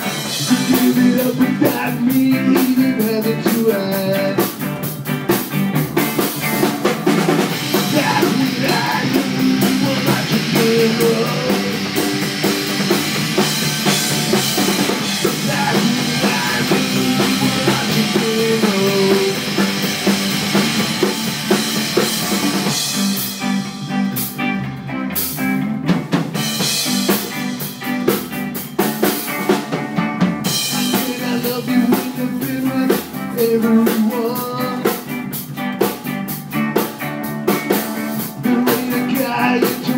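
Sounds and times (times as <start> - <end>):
drum kit: 0.0 - 39.9
electric guitars: 0.0 - 39.9
upright bass: 0.0 - 39.9.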